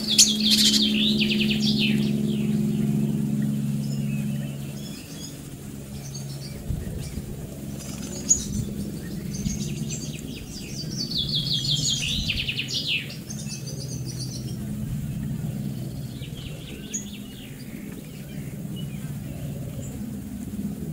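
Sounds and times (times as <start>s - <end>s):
songbirds calling and singing: 0.0s - 20.9s
steady low hum: 0.0s - 20.9s.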